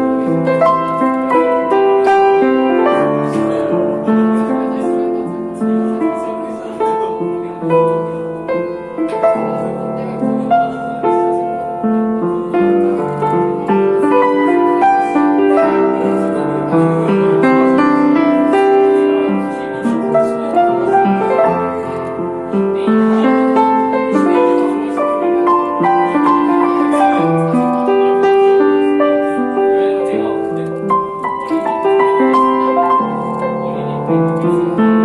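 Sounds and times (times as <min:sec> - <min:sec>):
slow piano melody: 0:00.0 - 0:35.0.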